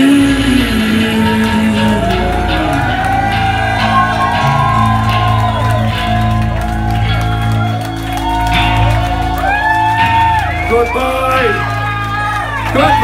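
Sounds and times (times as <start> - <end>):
live rock band playing: 0.0 - 13.0
crowd shouts and whoops: 1.0 - 13.0.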